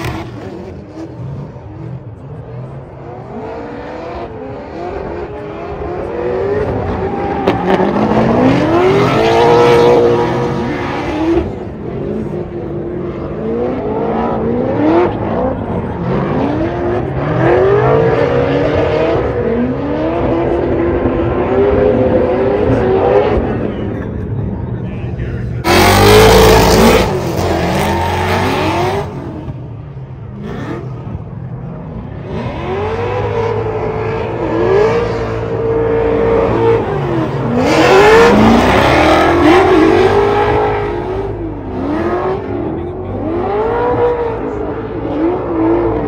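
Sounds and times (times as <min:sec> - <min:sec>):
car engine revving hard: 0:03.2 - 0:23.8, 0:25.6 - 0:29.5, 0:32.2 - 0:46.0.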